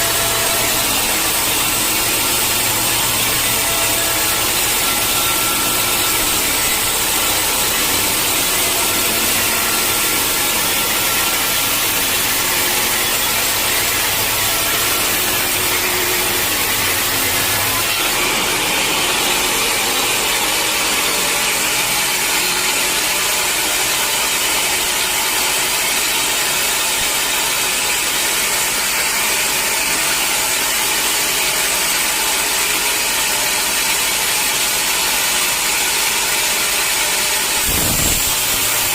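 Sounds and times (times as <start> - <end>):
saw cutting through log: 0.0 - 38.9.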